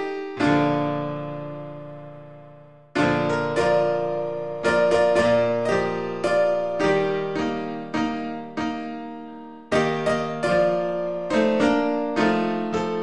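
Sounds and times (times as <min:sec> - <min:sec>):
slow piano-like keyboard music: 0:00.0 - 0:13.0.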